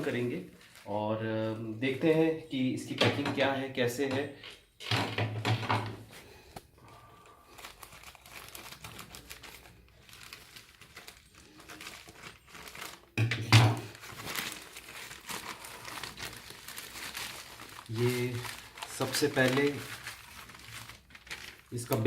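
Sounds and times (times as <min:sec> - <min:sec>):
packaging crinkling and rustling: 0:00.0 - 0:02.0, 0:06.0 - 0:22.0.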